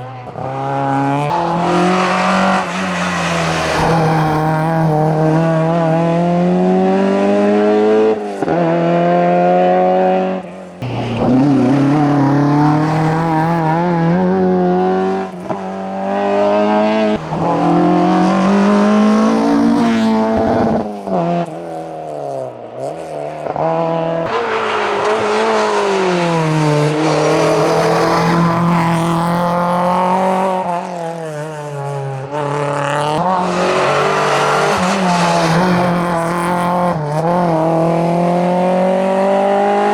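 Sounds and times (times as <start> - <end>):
racing car engine revving: 0.0 - 39.9.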